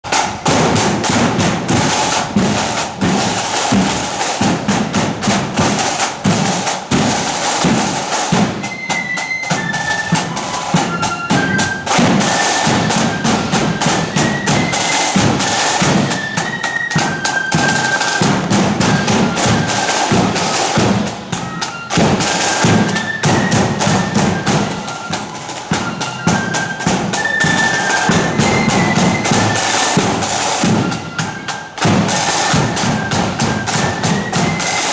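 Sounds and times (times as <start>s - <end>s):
snare and bass drum beats: 0.0s - 34.9s
flute melody: 0.1s - 34.9s.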